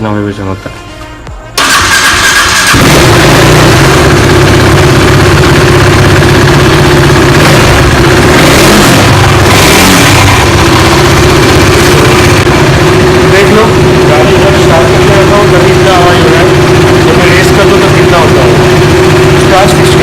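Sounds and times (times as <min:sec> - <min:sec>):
motorcycle engine idling: 0:01.6 - 0:20.0.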